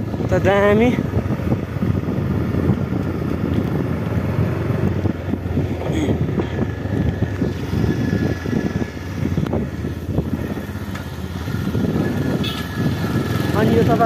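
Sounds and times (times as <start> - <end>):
vehicle low rumble: 0.0 - 14.0
wind buffeting microphone: 0.0 - 14.0.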